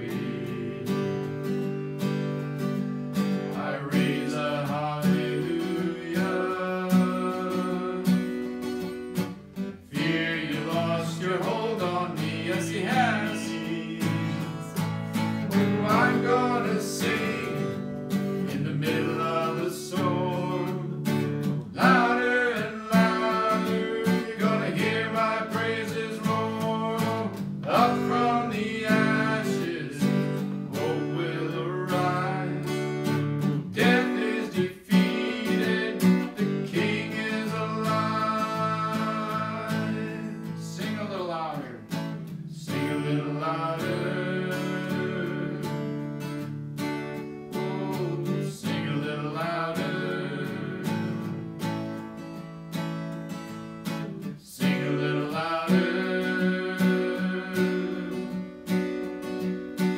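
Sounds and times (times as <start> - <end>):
man singing: 0.0 - 1.4, 3.5 - 8.5, 9.8 - 46.4, 47.5 - 51.6, 54.2 - 58.7
acoustic guitar strumming: 0.0 - 59.9.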